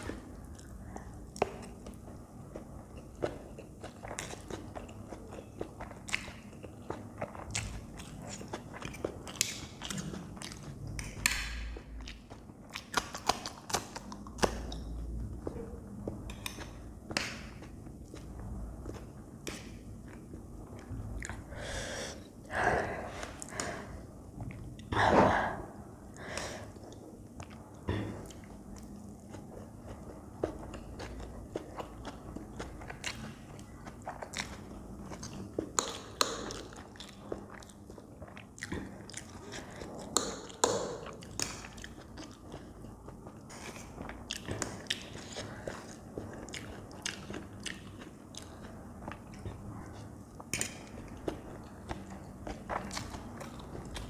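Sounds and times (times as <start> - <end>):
chewing noodles: 0.0 - 22.6, 26.6 - 54.0.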